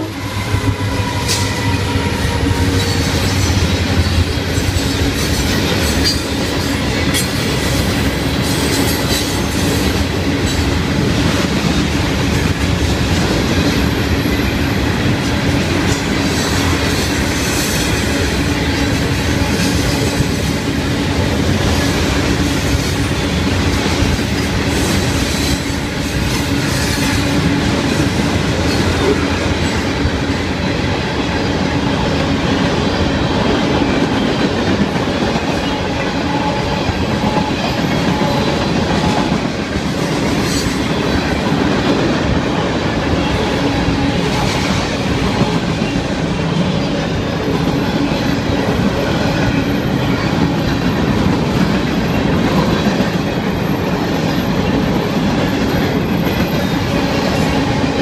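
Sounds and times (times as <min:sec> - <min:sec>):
steel wheels rolling on rails: 0:00.0 - 0:58.0.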